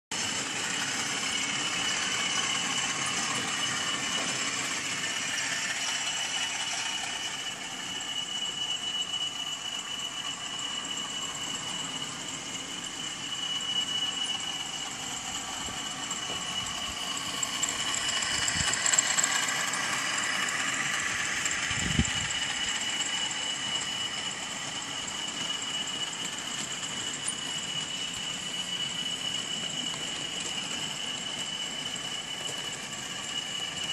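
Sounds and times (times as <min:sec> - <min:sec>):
model train motor running: 0:00.1 - 0:33.9
steady high whine: 0:00.1 - 0:33.9
wagons rattling over track: 0:00.2 - 0:33.9.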